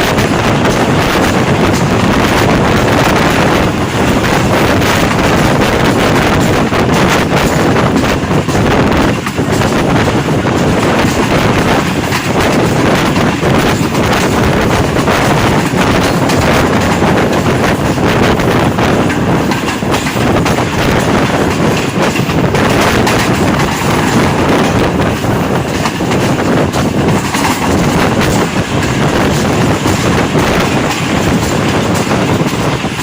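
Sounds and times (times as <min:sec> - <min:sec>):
train wheels rumbling: 0:00.0 - 0:33.0
wheels clicking over track: 0:00.0 - 0:33.0.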